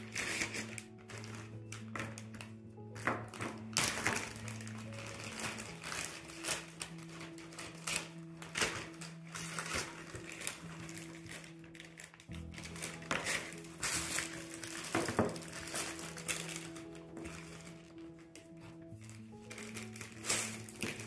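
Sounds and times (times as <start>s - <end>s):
background music of held notes: 0.0s - 21.0s
plastic bags crinkling: 0.0s - 21.0s.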